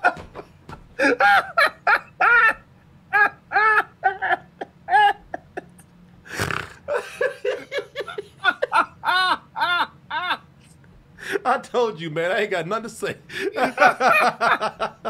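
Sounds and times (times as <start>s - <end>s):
men laughing hard: 0.0s - 10.5s, 13.3s - 15.0s.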